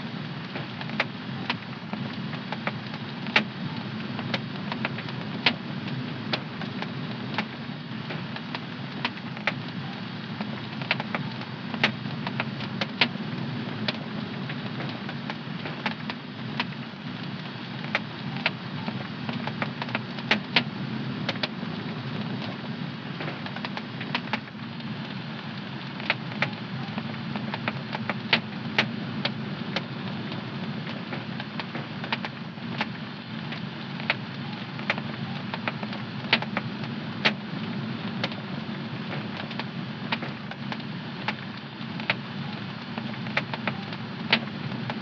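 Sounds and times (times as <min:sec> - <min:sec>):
fire popping and snapping: 0:00.0 - 0:45.0
low rushing of flames: 0:00.0 - 0:45.0.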